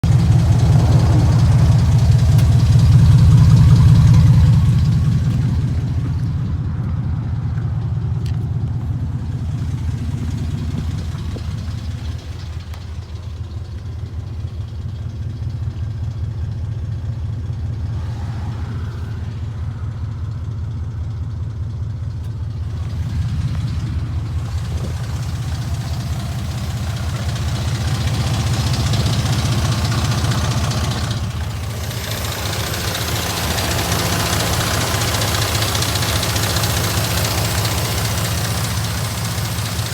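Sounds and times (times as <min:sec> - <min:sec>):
engine idling with chain rattle: 0:00.0 - 0:39.9.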